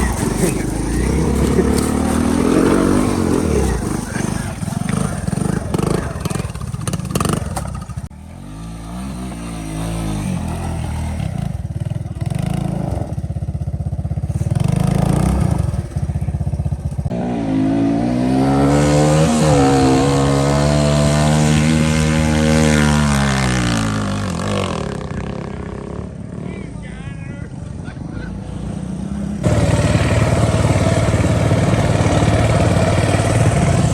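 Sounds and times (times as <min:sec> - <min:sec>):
dirt bike engine revving: 0:00.0 - 0:26.7, 0:28.3 - 0:33.9.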